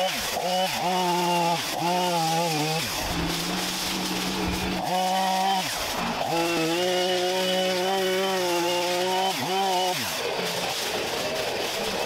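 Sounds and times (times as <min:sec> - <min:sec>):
chainsaw cutting bamboo: 0:00.0 - 0:12.0.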